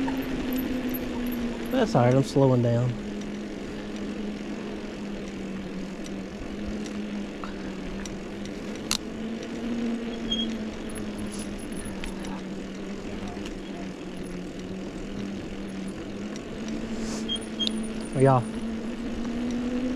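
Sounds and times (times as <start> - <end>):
bicycle hum: 0.0 - 19.9.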